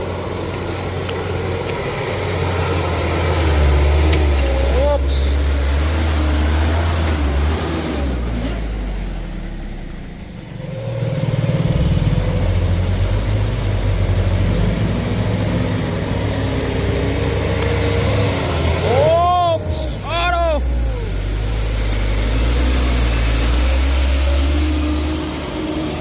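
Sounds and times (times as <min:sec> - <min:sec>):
diesel truck engine labouring uphill: 0:00.0 - 0:26.0.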